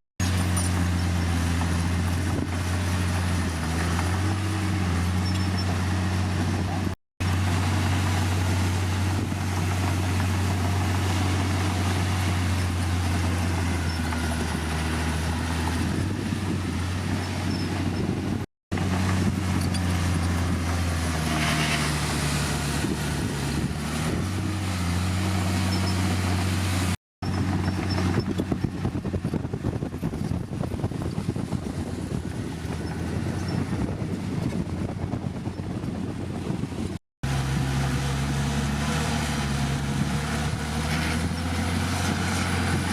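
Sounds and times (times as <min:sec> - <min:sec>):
heavy machinery diesel engine: 0:00.2 - 0:42.9.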